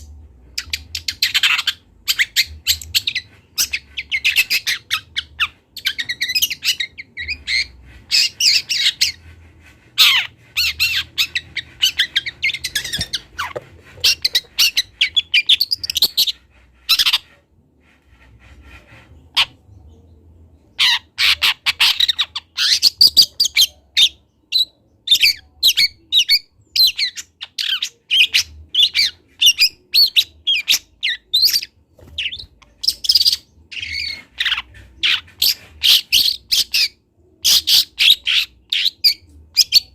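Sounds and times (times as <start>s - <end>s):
bird chirping and chattering: 0.6s - 17.4s, 20.7s - 39.9s.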